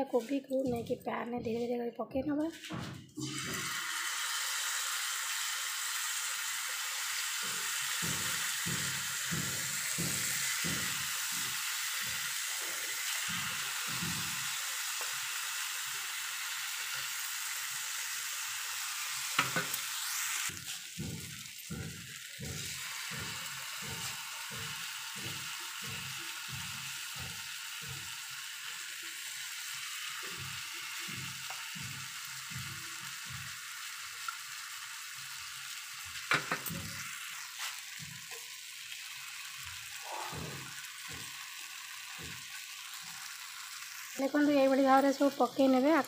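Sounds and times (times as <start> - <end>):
vegetables sizzling in oil: 0.0 - 1.7, 2.3 - 46.0.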